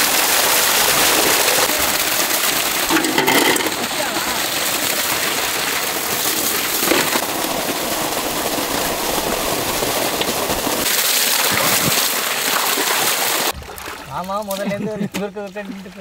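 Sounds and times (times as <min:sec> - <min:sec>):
water pouring onto wet ground: 0:00.0 - 0:16.0.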